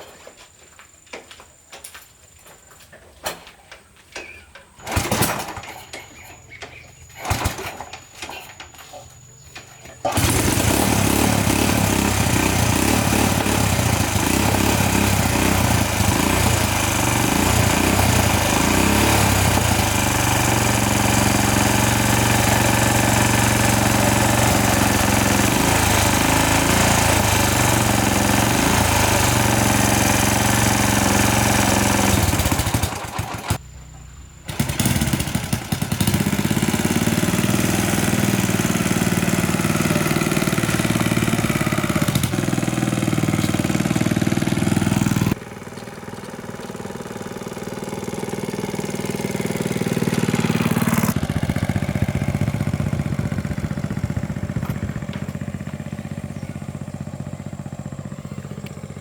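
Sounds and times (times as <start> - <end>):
motorbike engine running: 10.1 - 33.6, 34.5 - 59.0.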